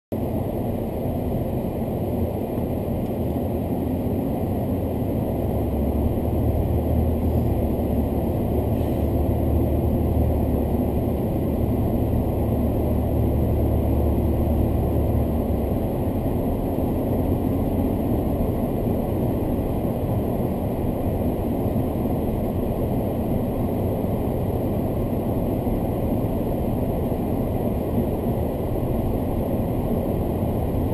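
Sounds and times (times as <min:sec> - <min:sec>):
car engine and road rumble: 0:00.1 - 0:30.9.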